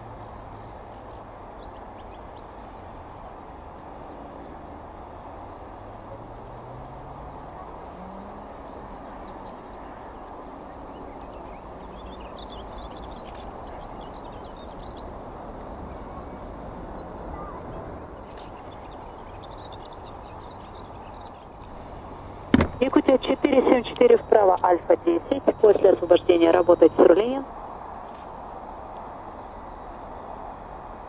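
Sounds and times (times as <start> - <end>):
birds chirping: 0.0 - 3.6, 6.2 - 27.5
jet engines rumbling: 0.0 - 31.0.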